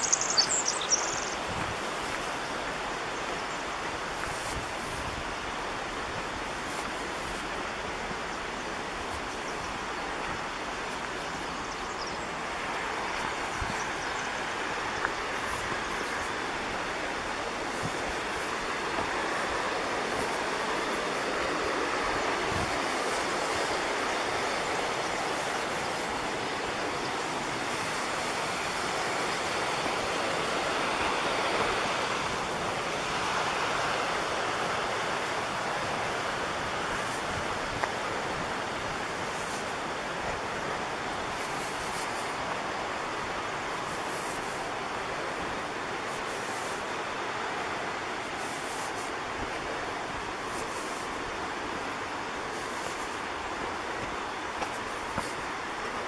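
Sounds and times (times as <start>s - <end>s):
creek water flowing: 0.0s - 56.0s.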